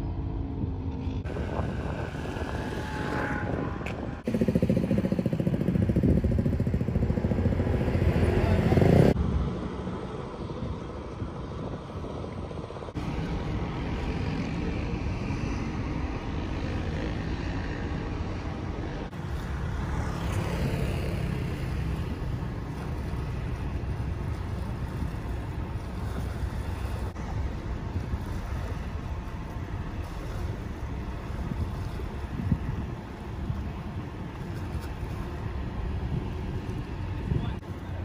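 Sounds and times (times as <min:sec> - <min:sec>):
boat engines rumbling: 0:00.0 - 0:38.0
churning water: 0:00.0 - 0:38.0
wind on microphone: 0:00.0 - 0:38.0.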